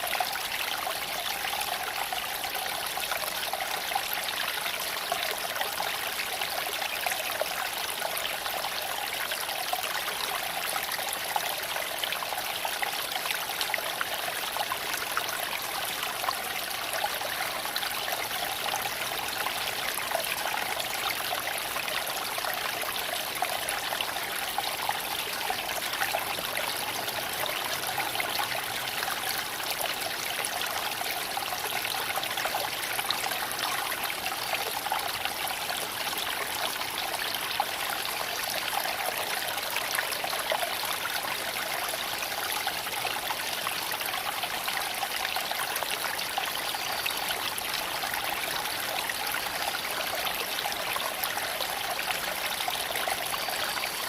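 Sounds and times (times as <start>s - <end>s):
creek trickling over stones: 0.0s - 54.0s.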